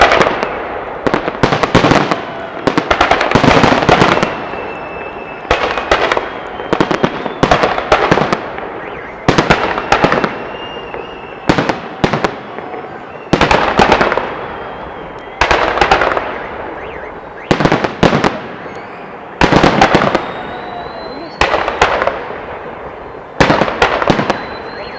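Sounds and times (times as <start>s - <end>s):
fireworks bangs: 0.0s - 24.9s.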